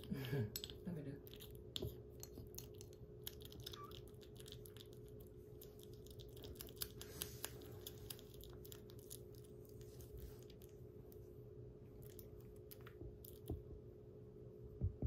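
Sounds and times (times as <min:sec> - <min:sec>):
kitten licking and chewing: 0:00.0 - 0:14.1
steady low hum: 0:00.0 - 0:15.0.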